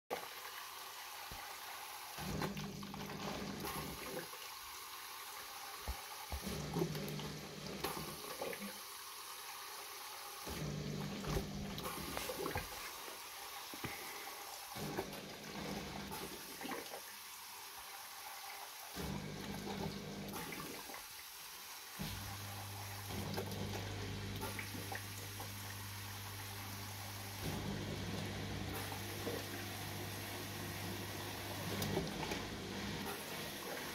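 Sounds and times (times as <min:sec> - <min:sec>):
water flowing: 0:00.1 - 0:33.9
dishwasher running: 0:00.2 - 0:08.8, 0:10.0 - 0:17.0, 0:18.2 - 0:21.2, 0:21.8 - 0:33.9.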